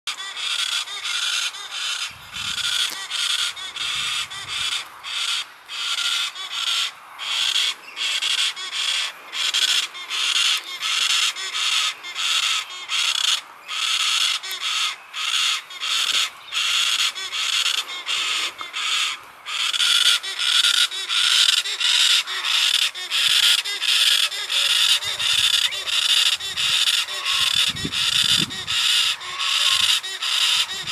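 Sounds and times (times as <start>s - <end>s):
birds screeching: 0.1s - 30.9s.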